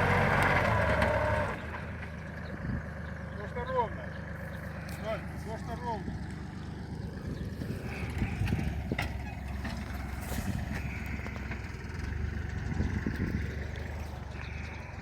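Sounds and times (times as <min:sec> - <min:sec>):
tiller engine chugging: 0:00.0 - 0:15.0.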